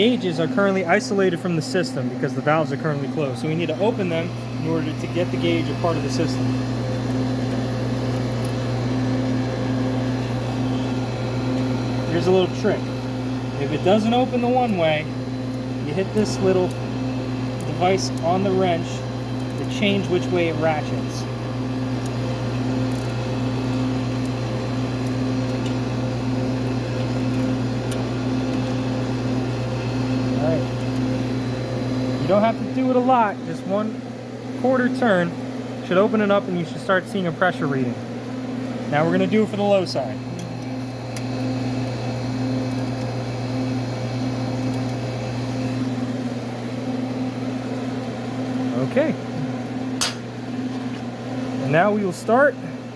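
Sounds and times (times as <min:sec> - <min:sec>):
air conditioner humming: 0:00.0 - 0:52.9.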